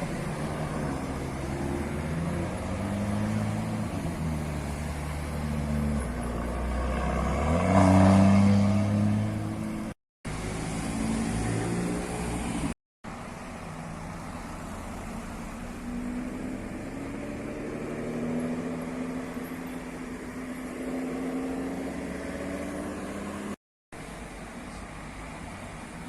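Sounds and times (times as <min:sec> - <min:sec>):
cars driving by slowly: 0:00.0 - 0:26.0.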